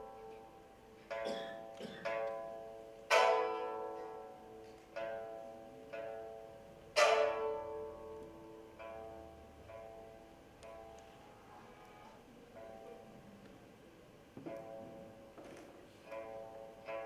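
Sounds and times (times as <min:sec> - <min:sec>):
plucked lute chords: 0:00.0 - 0:13.5, 0:14.4 - 0:15.4, 0:16.0 - 0:17.0.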